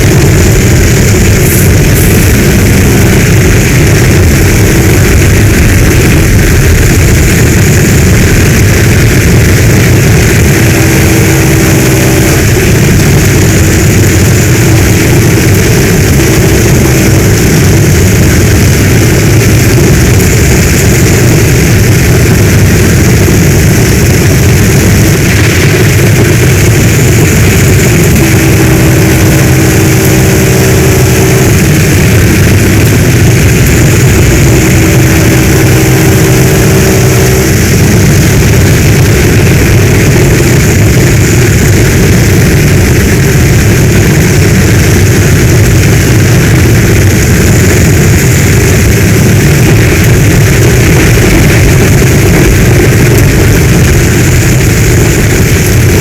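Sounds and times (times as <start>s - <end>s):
deep low rumble: 0.0s - 56.0s
heavy rain pouring: 0.0s - 56.0s.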